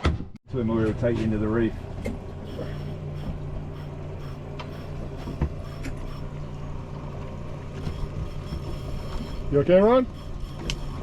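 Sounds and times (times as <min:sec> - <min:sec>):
boat engine humming: 0:00.6 - 0:11.0.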